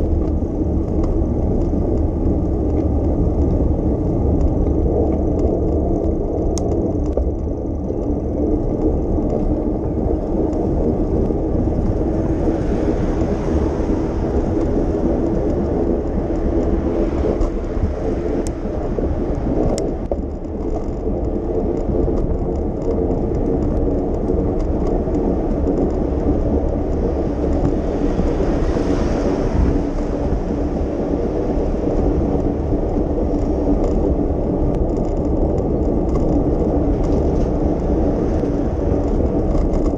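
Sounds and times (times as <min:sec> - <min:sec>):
bicycle tyres rumbling on street: 0:00.0 - 0:39.9
wind on microphone: 0:00.0 - 0:39.9.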